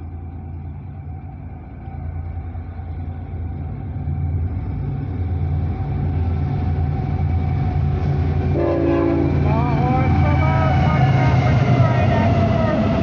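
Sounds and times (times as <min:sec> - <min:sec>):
freight train diesel rumble: 0:00.0 - 0:13.0.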